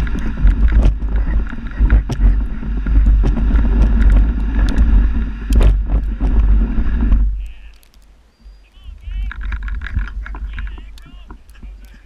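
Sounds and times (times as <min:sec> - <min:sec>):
wind buffeting microphone: 0:00.0 - 0:07.7, 0:08.3 - 0:12.0
sled runners rumbling on snow: 0:00.0 - 0:12.0.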